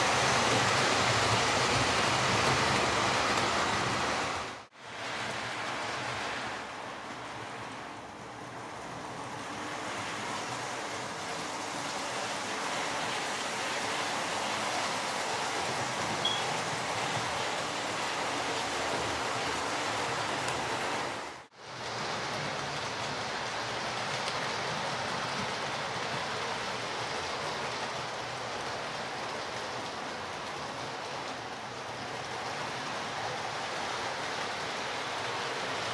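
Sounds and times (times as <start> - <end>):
model trains rattling on rails: 0.0 - 35.9.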